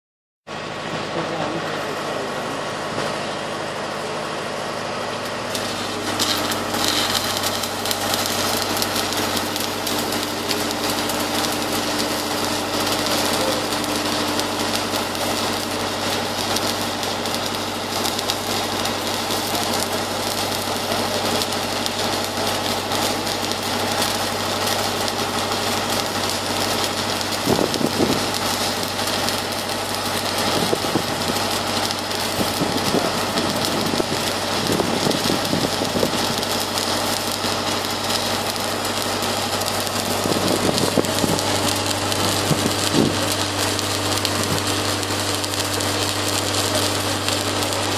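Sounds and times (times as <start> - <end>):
crackling welding arc: 5.0 - 47.9.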